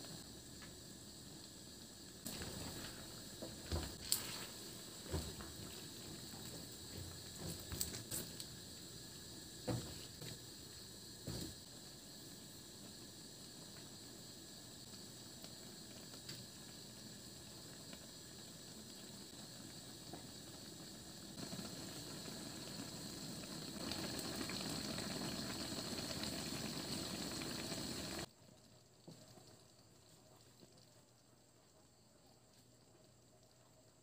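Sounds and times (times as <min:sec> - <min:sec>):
stew simmering and bubbling: 0:00.0 - 0:34.0.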